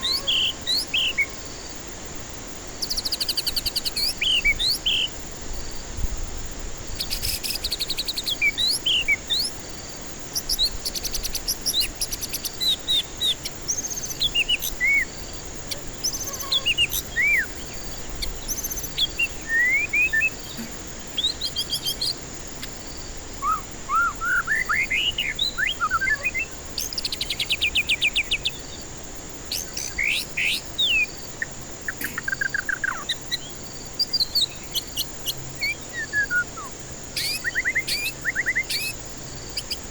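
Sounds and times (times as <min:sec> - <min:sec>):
bird singing whistled trills: 0:00.0 - 0:01.4, 0:02.8 - 0:05.2, 0:07.0 - 0:09.6, 0:10.3 - 0:28.8, 0:29.4 - 0:39.9
faint high insect-like buzz: 0:00.0 - 0:39.9.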